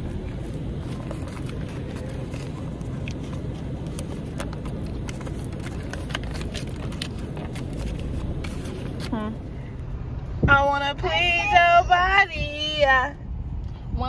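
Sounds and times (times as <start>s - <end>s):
car rumbling: 0.0s - 14.0s.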